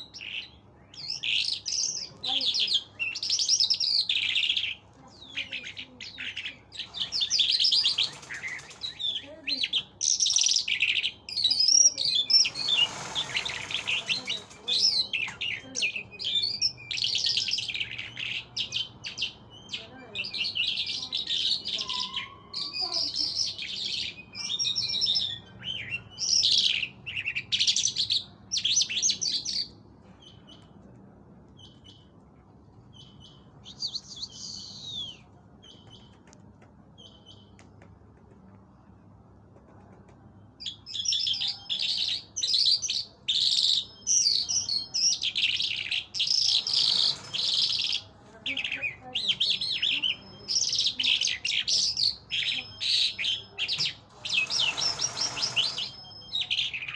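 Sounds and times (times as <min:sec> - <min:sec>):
songbird chirps and trills: 0:00.0 - 0:56.9.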